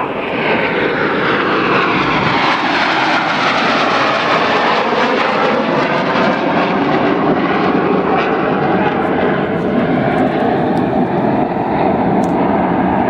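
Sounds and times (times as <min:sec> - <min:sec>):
jets flying by: 0:00.0 - 0:13.0.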